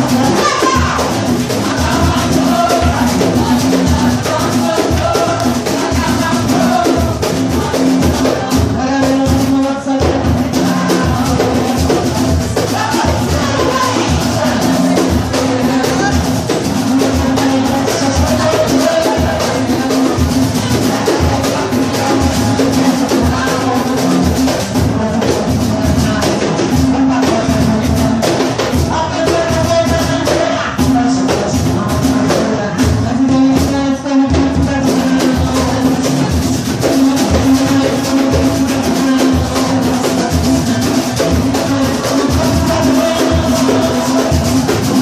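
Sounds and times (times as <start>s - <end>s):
percussion ensemble drums and shakers: 0.0s - 45.0s.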